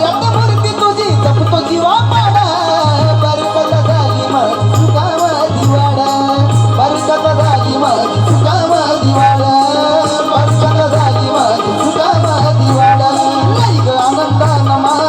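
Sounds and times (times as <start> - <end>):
wavering folk melody: 0.0 - 15.0.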